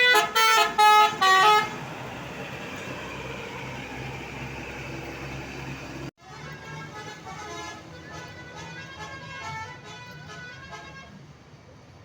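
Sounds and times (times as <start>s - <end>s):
musical bus horn melody: 0.0s - 3.2s, 3.8s - 11.2s
bus engine humming: 0.0s - 11.4s.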